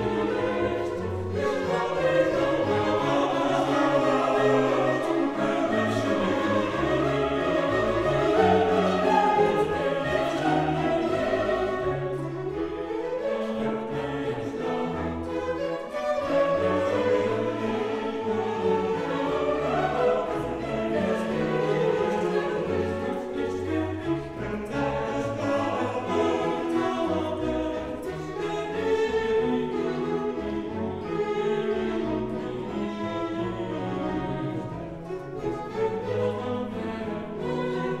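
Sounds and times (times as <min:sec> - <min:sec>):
choir singing: 0:00.0 - 0:38.0
orchestral music: 0:00.0 - 0:38.0.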